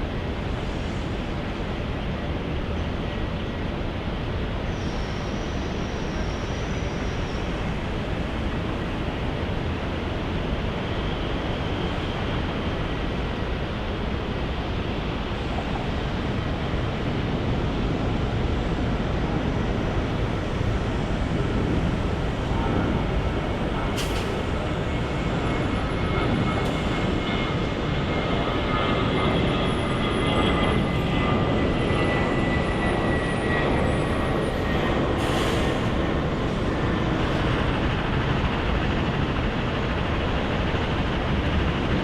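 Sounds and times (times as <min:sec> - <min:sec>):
jet engines rushing: 0:00.0 - 0:42.0.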